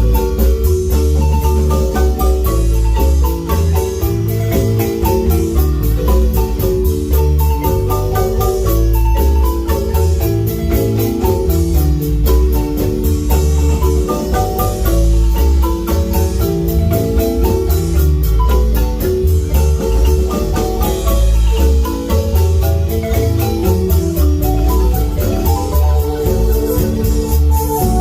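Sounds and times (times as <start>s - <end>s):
marimba band playing: 0.0s - 28.0s.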